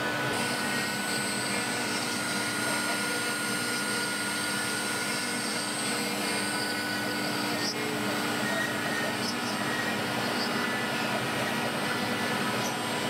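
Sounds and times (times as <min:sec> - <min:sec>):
router spindle humming: 0:00.0 - 0:13.0.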